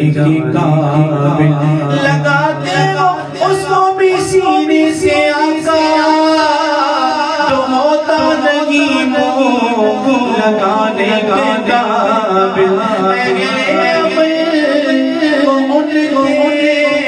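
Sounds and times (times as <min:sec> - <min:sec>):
man singing with echo: 0:00.0 - 0:17.0.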